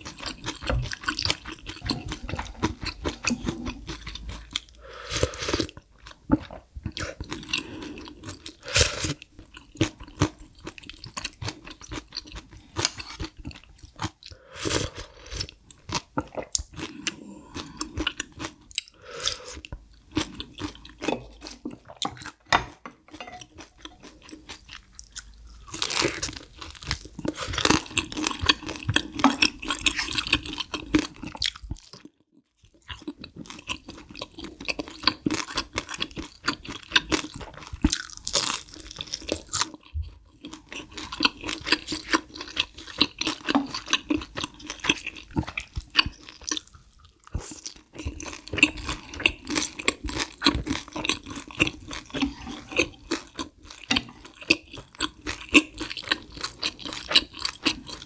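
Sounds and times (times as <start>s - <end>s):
chewing and crunching crispy food: 0.0s - 58.0s.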